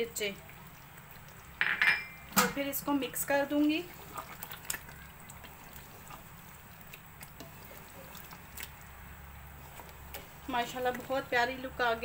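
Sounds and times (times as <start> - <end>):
spoon stirring thick gravy: 2.2 - 12.0.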